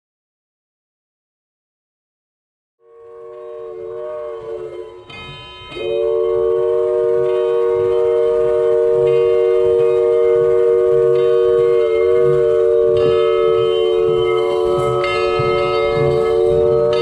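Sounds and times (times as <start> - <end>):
steam locomotive whistle chord: 2.8 - 17.0.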